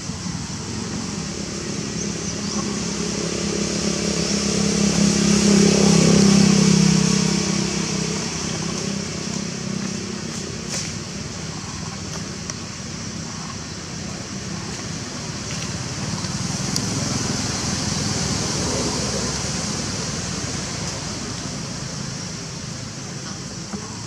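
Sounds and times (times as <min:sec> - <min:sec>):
constant high hiss: 0:00.0 - 0:24.0.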